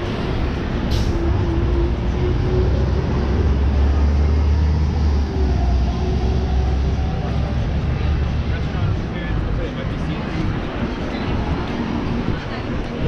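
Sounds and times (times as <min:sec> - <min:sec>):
busy city road traffic: 0:00.0 - 0:13.0.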